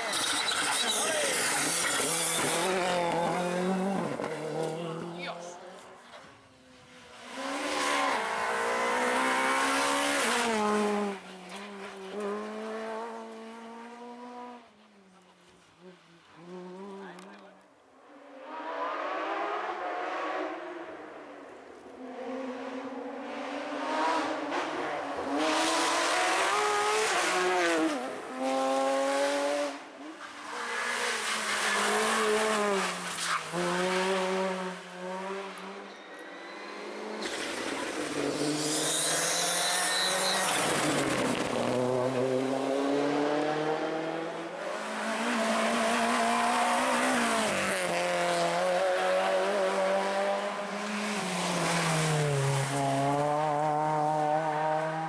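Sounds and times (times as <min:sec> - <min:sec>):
rally car engines revving: 0:00.0 - 0:17.6, 0:18.2 - 0:55.0.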